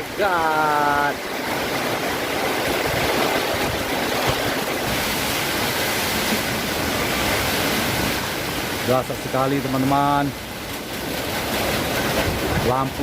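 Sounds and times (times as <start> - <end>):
heavy rain: 0.0 - 13.0
strong storm wind: 0.0 - 13.0.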